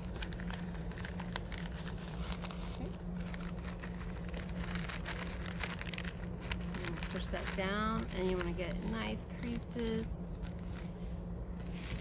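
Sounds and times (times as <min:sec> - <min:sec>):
newspaper crinkling and rustling: 0:00.0 - 0:12.0
steady low hum: 0:00.0 - 0:12.0.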